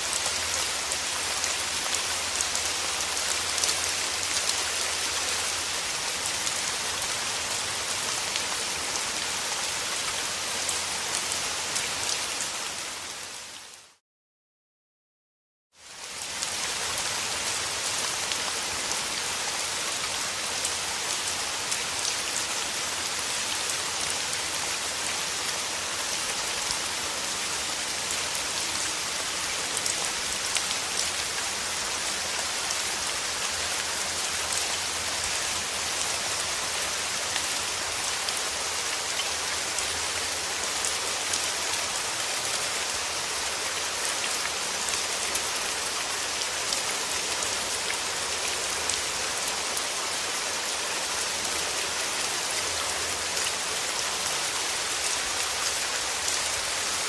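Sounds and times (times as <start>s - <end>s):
steady rain falling: 0.0s - 14.0s, 15.8s - 57.0s.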